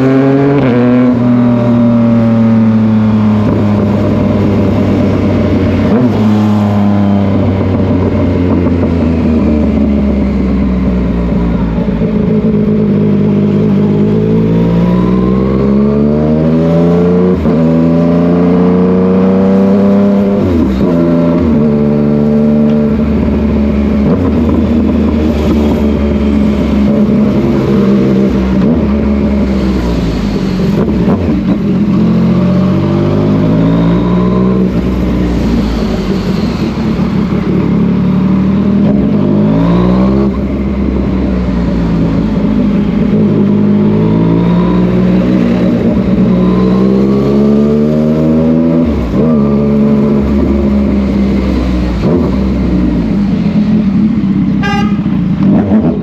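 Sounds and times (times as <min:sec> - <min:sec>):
motorcycle engine running: 0:00.0 - 0:16.2, 0:18.8 - 0:47.8, 0:48.7 - 0:56.0.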